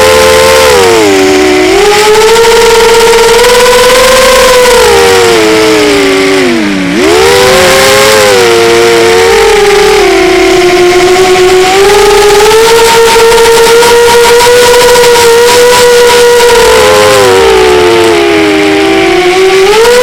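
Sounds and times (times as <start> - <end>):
model airplane engine running: 0.0 - 20.0.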